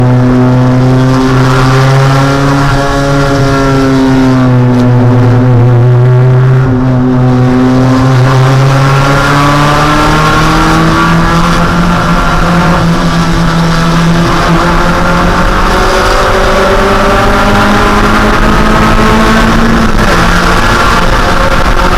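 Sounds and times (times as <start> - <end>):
race car engine accelerating: 0.0 - 21.9.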